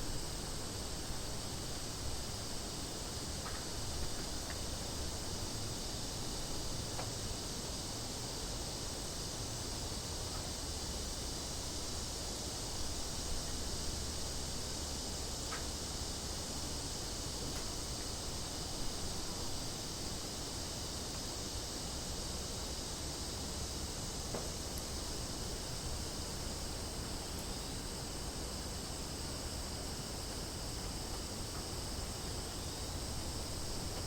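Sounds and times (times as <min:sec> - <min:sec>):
cicadas buzzing: 0:00.0 - 0:34.0.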